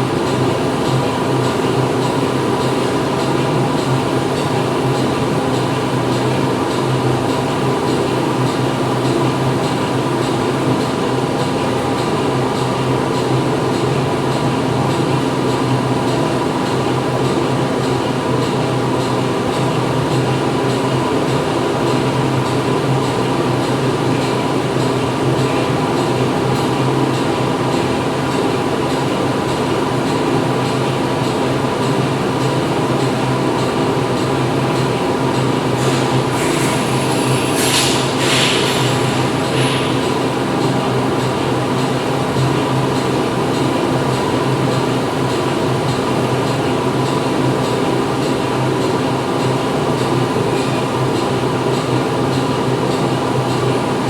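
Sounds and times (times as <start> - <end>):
factory machinery hum: 0.0 - 54.0.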